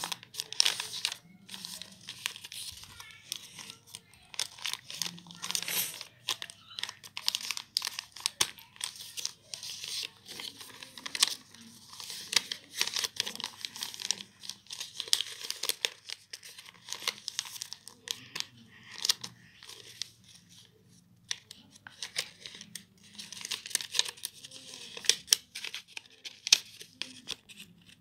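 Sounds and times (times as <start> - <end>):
paper rustling and crackling: 0.0 - 28.0.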